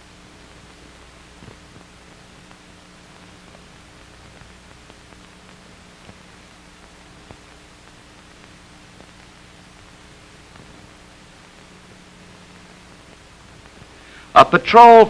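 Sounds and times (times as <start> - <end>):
crackles and pops: 0.0 - 15.0
film soundtrack hiss and hum: 0.0 - 15.0.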